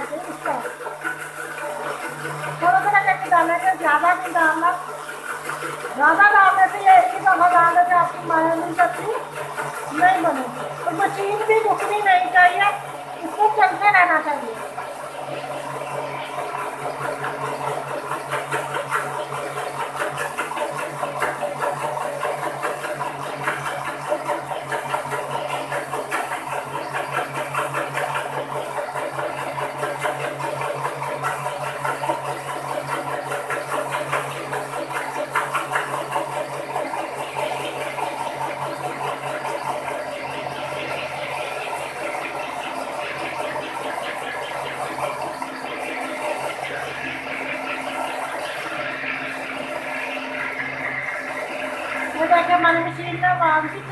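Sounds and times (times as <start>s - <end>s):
electric blender running: 0.0s - 53.9s.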